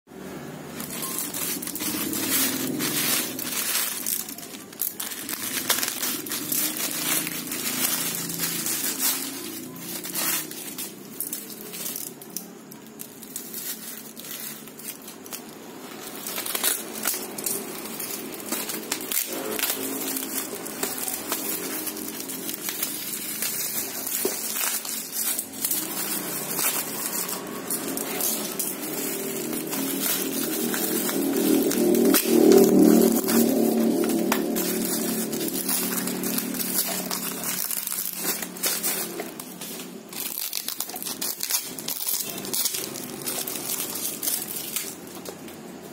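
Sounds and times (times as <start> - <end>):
plastic packaging crinkling: 0.2 - 45.9.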